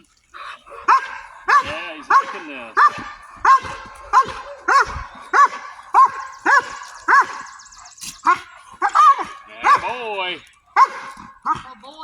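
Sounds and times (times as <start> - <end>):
dog barking: 0.5 - 11.9.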